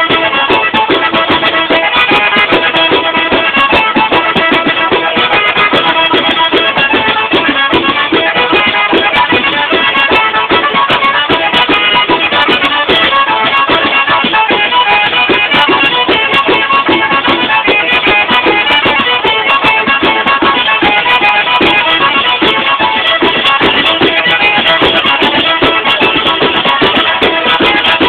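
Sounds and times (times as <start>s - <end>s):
button accordion melody: 0.0s - 28.0s
frame drum with jingles: 0.0s - 28.0s.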